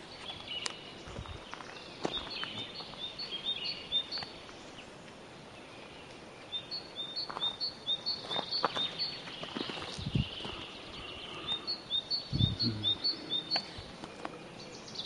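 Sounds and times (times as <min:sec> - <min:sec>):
small songbird singing: 0:00.0 - 0:15.0.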